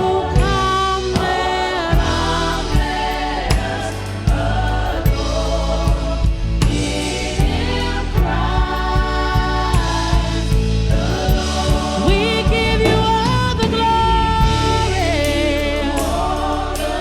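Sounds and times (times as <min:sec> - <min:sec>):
band playing: 0:00.0 - 0:15.4
choir singing: 0:00.0 - 0:17.0
drum kit beating: 0:00.0 - 0:17.0.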